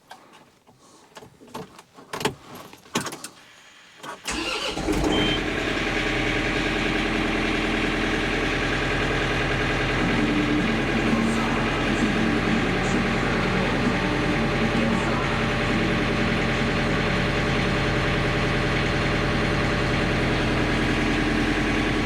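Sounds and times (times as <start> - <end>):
engine starting and idling: 3.8 - 22.0.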